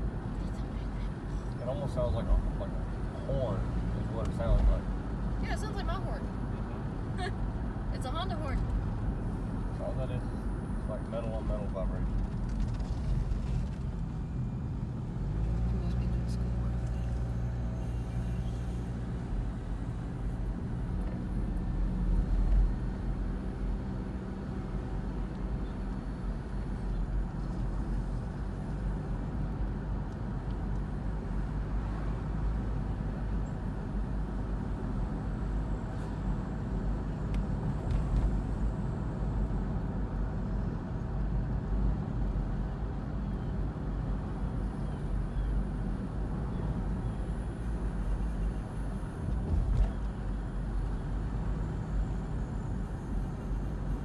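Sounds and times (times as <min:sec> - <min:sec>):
tyre and engine rumble: 0:08.0 - 0:54.0.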